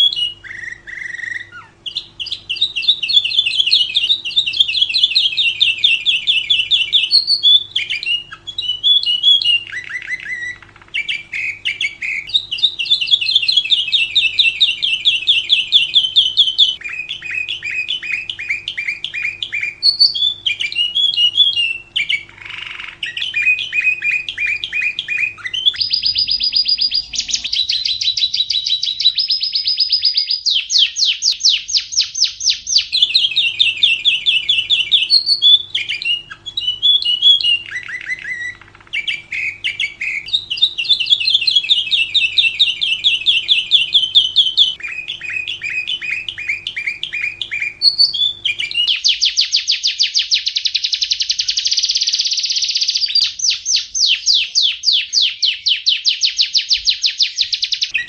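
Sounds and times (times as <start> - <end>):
lovebird trilling chirps: 0.0 - 58.0.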